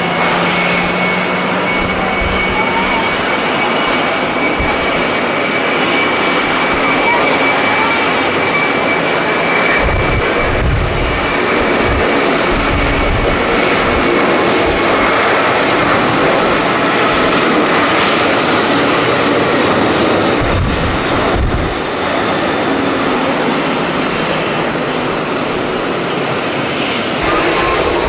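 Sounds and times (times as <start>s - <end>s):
jet engines running: 0.0s - 28.0s
wind buffeting microphone: 0.0s - 28.0s.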